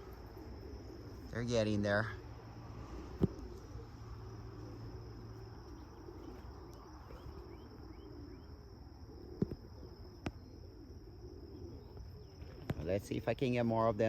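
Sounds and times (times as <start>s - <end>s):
faint bird chirps: 0.0s - 13.1s
insects trilling: 0.0s - 14.0s.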